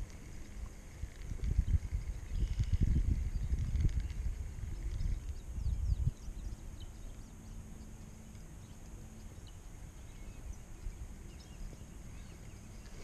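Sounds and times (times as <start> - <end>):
low steady rumble: 0.0 - 13.0
faint high bird chirps: 1.6 - 13.0.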